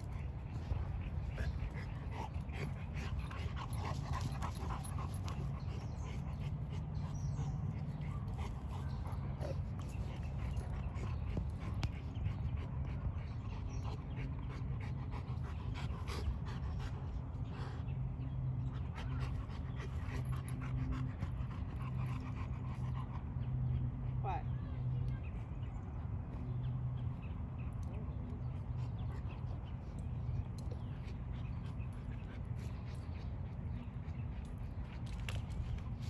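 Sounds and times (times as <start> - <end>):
dogs panting: 0.0 - 36.0
steady low rumble: 0.0 - 36.0.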